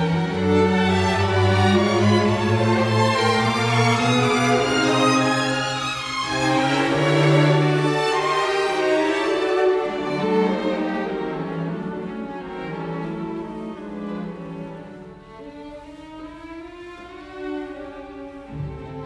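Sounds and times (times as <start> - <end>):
bowed strings slow melody: 0.0 - 19.0.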